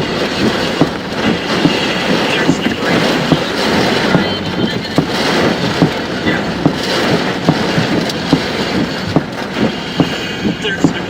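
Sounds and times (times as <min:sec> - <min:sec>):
rushing storm noise: 0:00.0 - 0:11.0
sharp repeating tick: 0:00.0 - 0:11.0.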